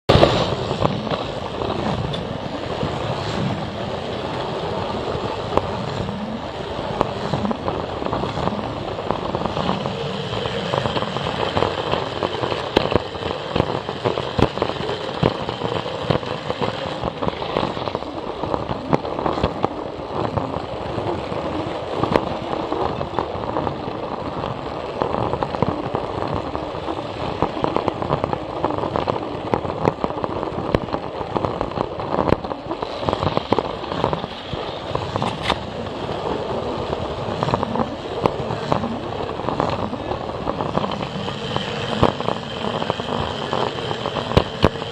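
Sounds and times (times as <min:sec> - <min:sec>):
wheels clicking over track: 0:00.1 - 0:44.9.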